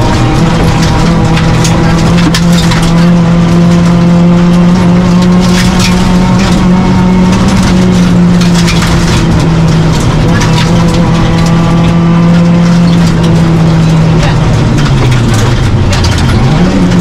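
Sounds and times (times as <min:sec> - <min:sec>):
car engine pulling hard: 0:00.0 - 0:17.0
gravel rattling against car underside: 0:00.0 - 0:17.0.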